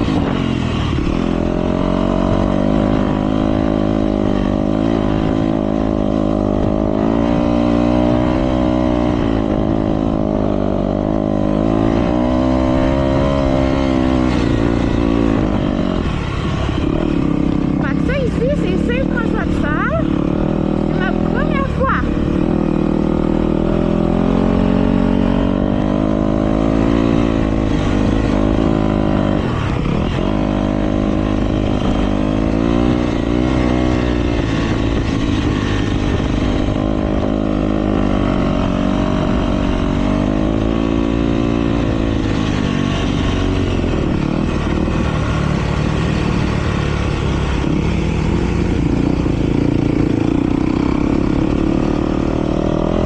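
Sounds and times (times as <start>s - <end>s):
motocross bikes revving: 0.0s - 53.0s.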